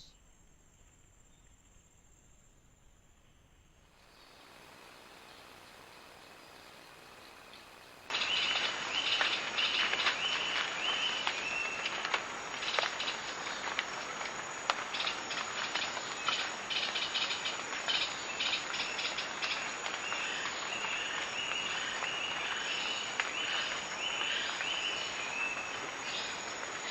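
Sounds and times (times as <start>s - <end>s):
insects chirping: 0.0s - 26.9s
steady high hiss: 0.0s - 26.9s.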